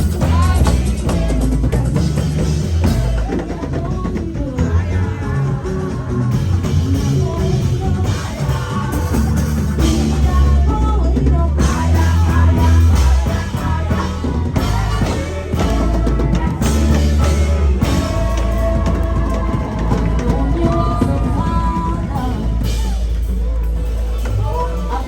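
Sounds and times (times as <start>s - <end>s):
live gospel band playing: 0.0s - 25.0s
person singing: 0.0s - 25.0s.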